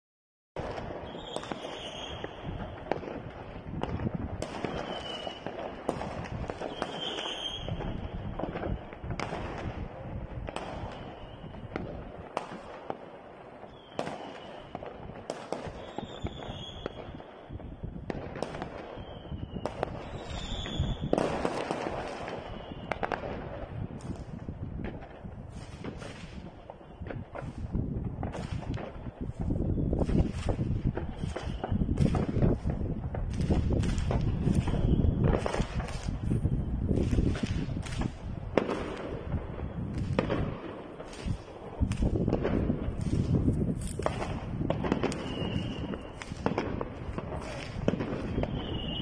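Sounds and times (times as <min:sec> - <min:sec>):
rumble of distant explosions: 0:00.6 - 0:07.0, 0:07.6 - 0:12.7, 0:14.0 - 0:49.0
firework whistles: 0:00.6 - 0:12.9, 0:13.6 - 0:24.5, 0:25.3 - 0:49.0
fireworks bangs and crackles: 0:00.6 - 0:49.0.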